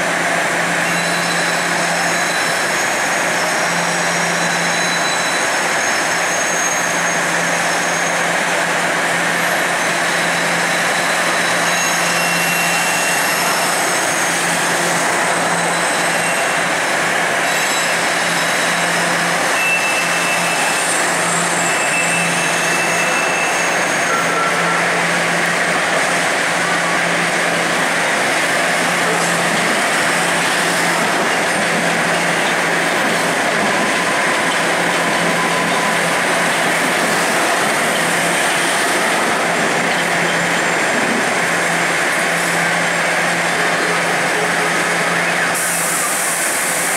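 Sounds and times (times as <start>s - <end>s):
train wheels rolling on rail: 0.0s - 46.9s.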